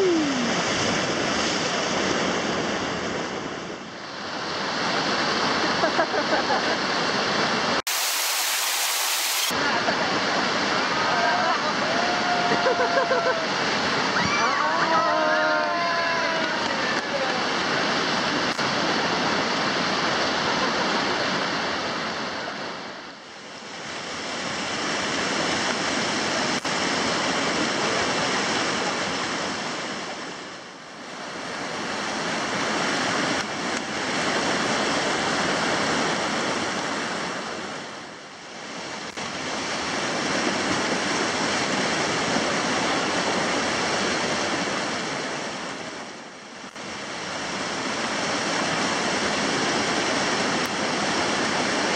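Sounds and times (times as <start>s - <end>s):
whitewater rapids rushing: 4.2s - 51.9s.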